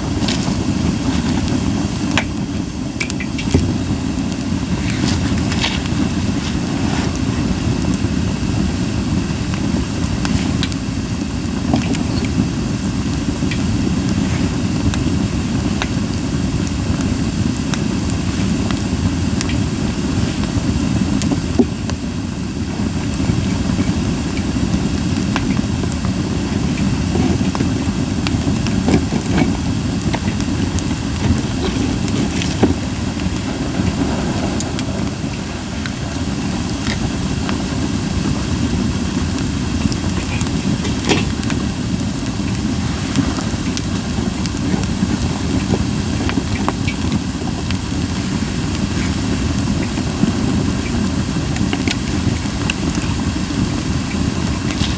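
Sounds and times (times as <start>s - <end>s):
low fire rumble: 0.0s - 54.9s
wood fire crackling: 0.0s - 54.9s.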